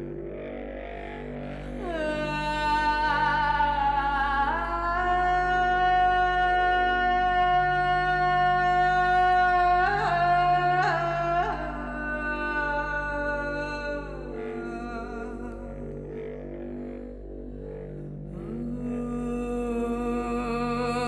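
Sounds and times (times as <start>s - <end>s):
steady low drone: 0.0s - 21.0s.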